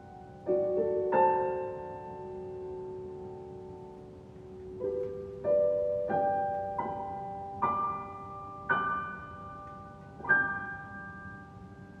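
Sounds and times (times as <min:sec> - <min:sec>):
piano single notes: 0:00.0 - 0:12.0.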